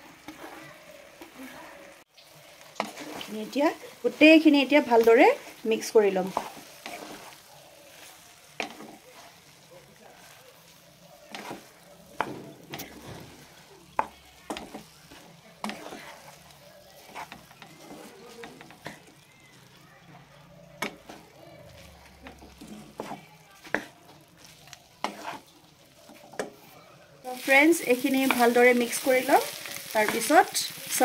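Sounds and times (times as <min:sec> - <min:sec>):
spatula scraping a pan: 0:00.0 - 0:19.7, 0:20.4 - 0:31.0
faint frying sizzle: 0:00.0 - 0:31.0.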